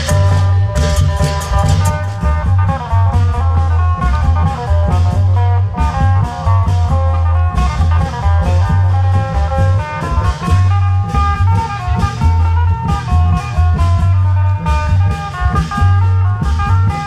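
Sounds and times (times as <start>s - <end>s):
continuous drumming: 0.0s - 17.0s
heavy bass line: 0.0s - 17.0s
plucked-string melody: 0.0s - 17.0s.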